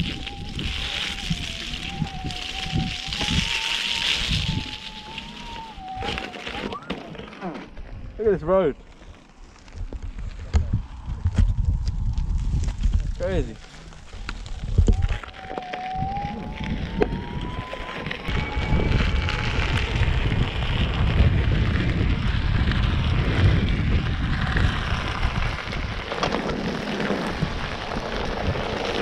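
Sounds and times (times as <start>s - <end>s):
wind buffeting microphone: 0.0s - 6.8s, 9.6s - 29.0s
electric unicycle motor whine: 0.0s - 29.0s
tyre rumbling on gravel: 0.0s - 29.0s.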